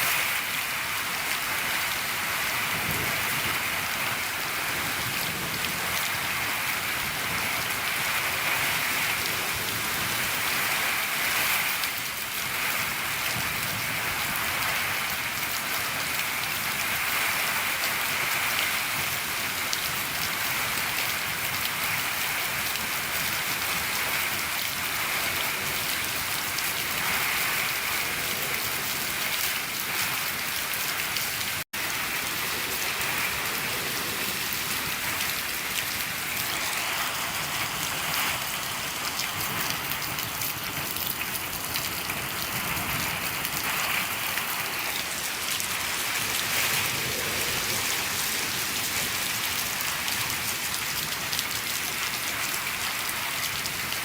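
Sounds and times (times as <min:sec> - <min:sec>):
rain on a shed roof: 0:00.0 - 0:54.0.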